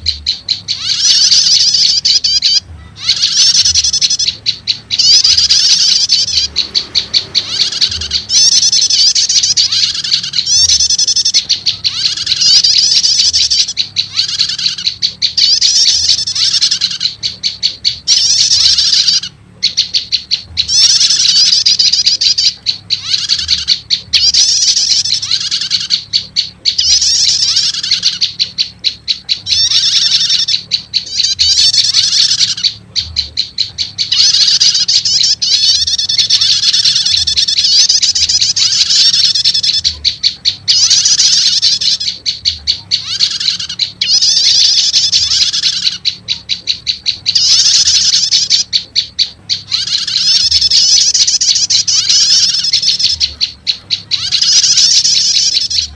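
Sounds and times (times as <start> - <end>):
high bird trilling: 0.0 - 55.9
sharp ticking bird notes: 0.0 - 55.9.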